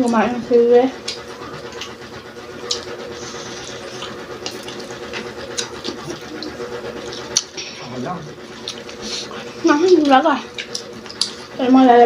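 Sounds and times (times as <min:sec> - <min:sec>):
faint background hum: 0:00.0 - 0:12.0
chewing with crisp crunches: 0:01.0 - 0:11.6.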